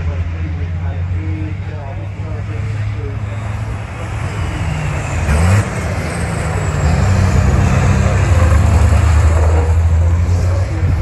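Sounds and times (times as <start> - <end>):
diesel truck engines racing: 0.0 - 11.0.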